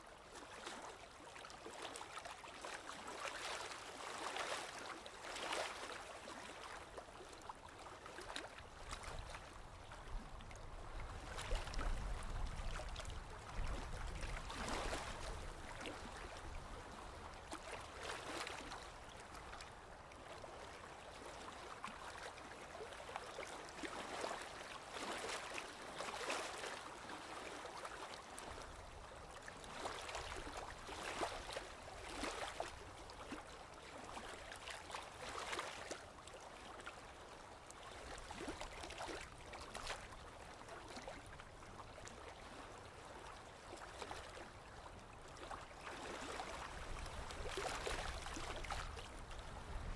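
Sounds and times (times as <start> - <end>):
stream water trickling: 0.0 - 49.9.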